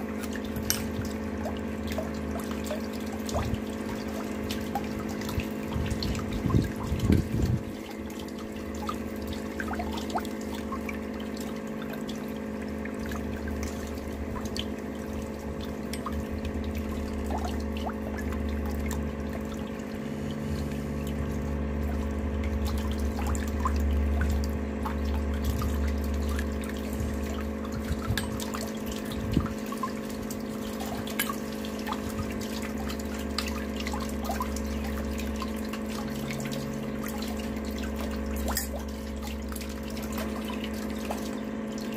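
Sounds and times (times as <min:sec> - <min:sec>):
low mechanical hum: 0:00.0 - 0:41.9
water trickling and dripping: 0:00.0 - 0:41.9.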